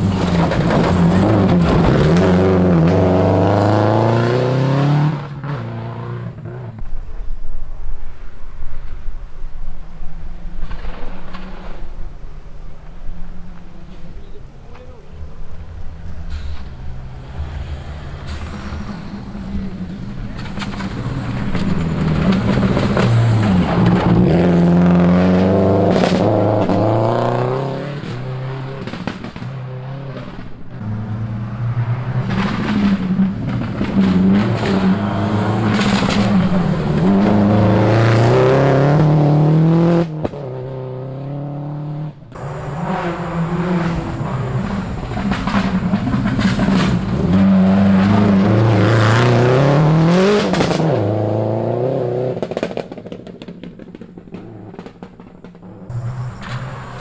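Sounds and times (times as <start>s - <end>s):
rally car engines revving: 0.0s - 6.9s, 10.3s - 57.0s.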